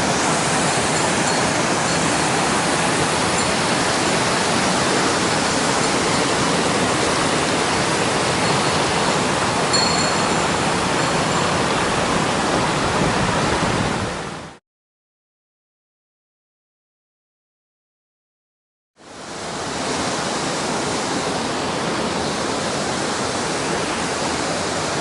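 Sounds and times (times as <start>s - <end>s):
water rushing over rocks: 0.0s - 14.6s, 19.2s - 25.0s.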